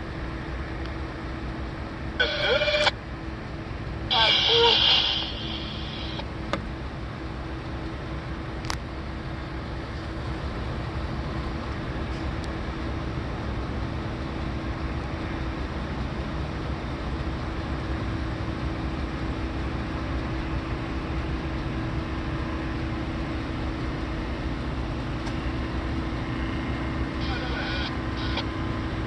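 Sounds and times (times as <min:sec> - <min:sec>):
diesel engine low drone: 0:00.0 - 0:29.0.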